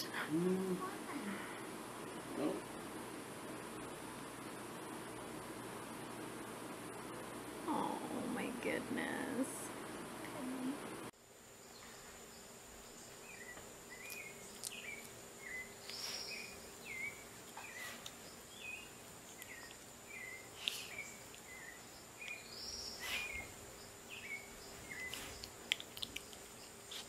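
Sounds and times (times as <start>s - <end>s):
faint hum and hiss: 0.0s - 27.0s.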